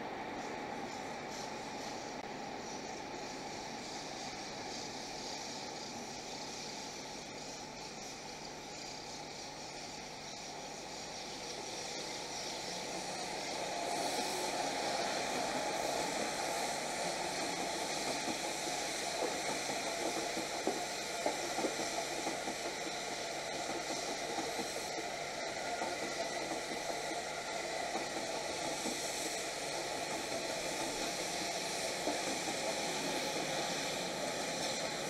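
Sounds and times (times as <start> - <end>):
passenger train passing: 0.0 - 35.0.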